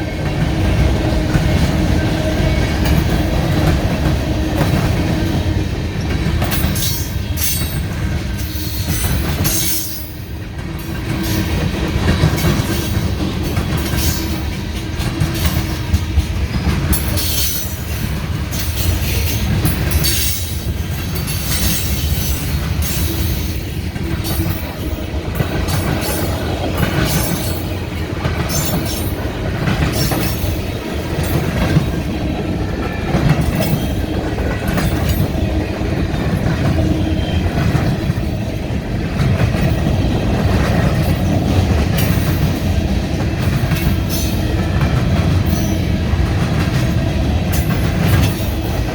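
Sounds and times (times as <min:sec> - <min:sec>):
freight train rumbling past: 0:00.0 - 0:48.9
wheels clacking over rail joints: 0:00.0 - 0:48.9.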